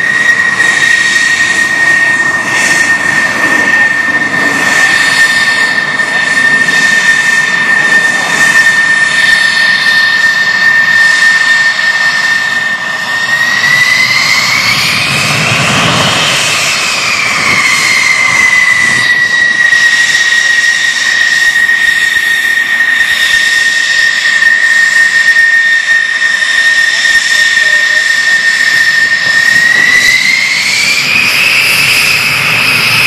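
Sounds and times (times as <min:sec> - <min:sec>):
jet engine high whine: 0:00.0 - 0:33.0.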